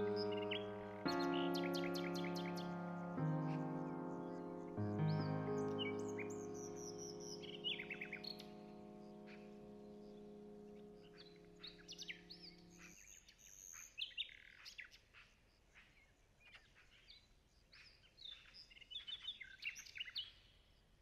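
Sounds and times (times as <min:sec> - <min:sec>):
small songbirds chirping: 0:00.0 - 0:21.0.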